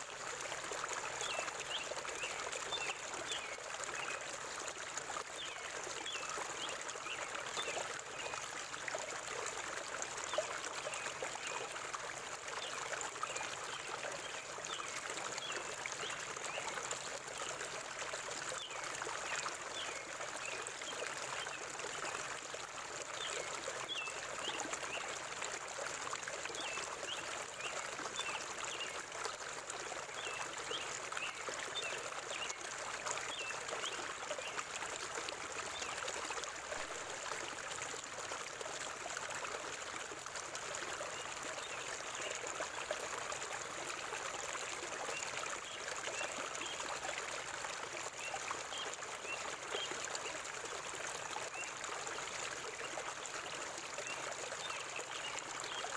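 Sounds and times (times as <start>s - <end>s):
water trickling over stones: 0.0s - 55.9s.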